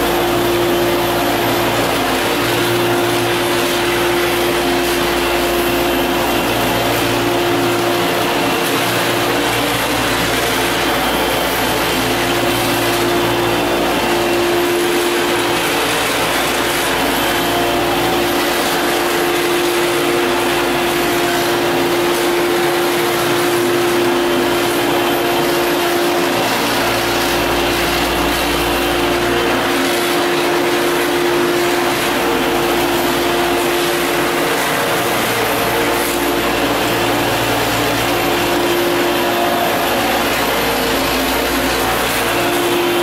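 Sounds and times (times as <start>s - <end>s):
floor sander humming: 0.0s - 43.0s.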